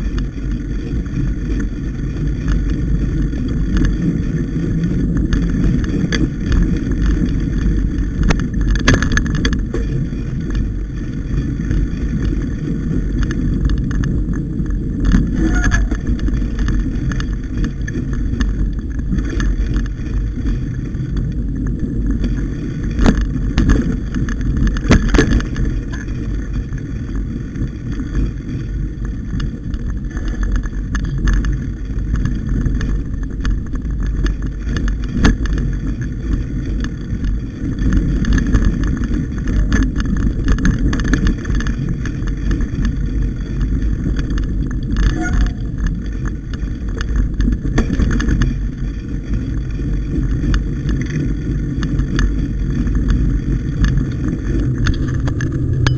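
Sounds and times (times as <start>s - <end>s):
bike clicks and knocks: 0.0s - 55.9s
wind and tyres rumbling: 0.0s - 55.9s.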